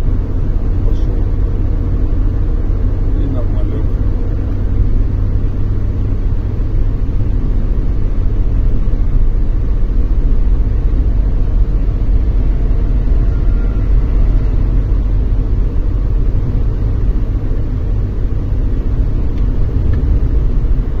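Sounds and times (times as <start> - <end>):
car engine running: 0.0 - 21.0
tyres rumbling on asphalt: 0.0 - 21.0.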